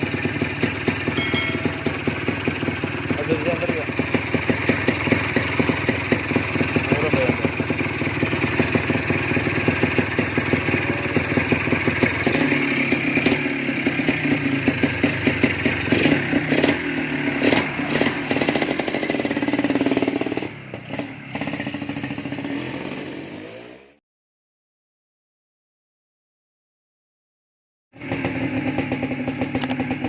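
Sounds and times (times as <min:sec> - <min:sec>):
two-stroke motorcycle engine revving: 0:00.0 - 0:24.0, 0:28.0 - 0:30.0.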